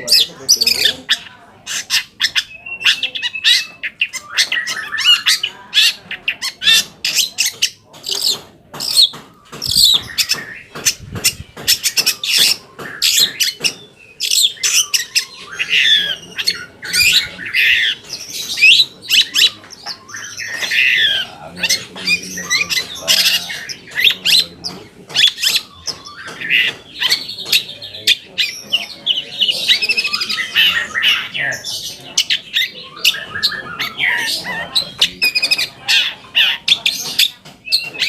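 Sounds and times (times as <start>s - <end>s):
bird singing scratchy chattering: 0.0s - 38.0s.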